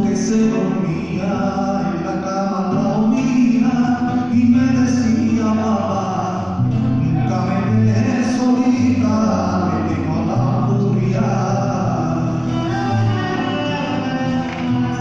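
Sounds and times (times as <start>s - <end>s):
man singing a ballad: 0.0s - 15.0s.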